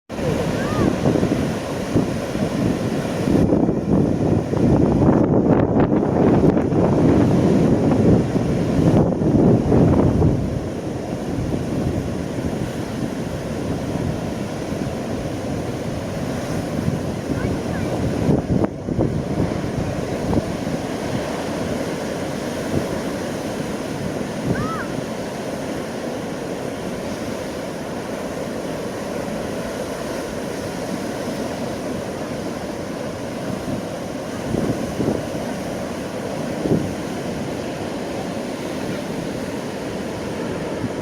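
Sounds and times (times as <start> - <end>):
surf breaking on rocks: 0.1 - 41.0
wind buffeting microphone: 0.1 - 41.0.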